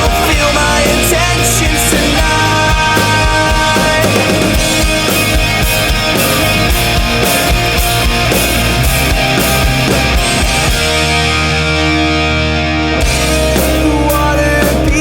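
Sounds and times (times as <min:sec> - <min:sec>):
drums: 0:00.0 - 0:15.0
electric guitars: 0:00.0 - 0:15.0.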